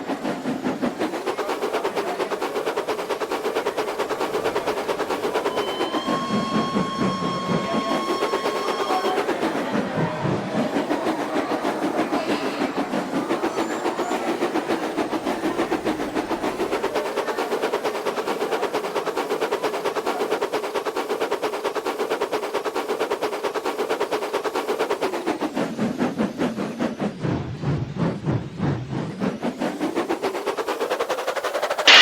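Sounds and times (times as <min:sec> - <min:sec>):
small engine running: 0:00.0 - 0:32.0.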